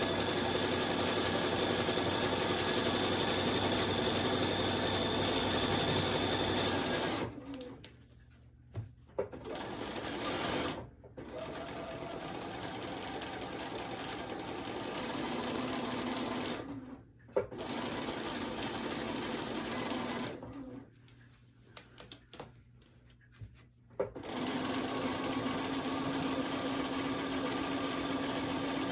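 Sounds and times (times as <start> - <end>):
sewing machine stitching: 0.0 - 7.8, 9.2 - 20.9, 24.0 - 28.9.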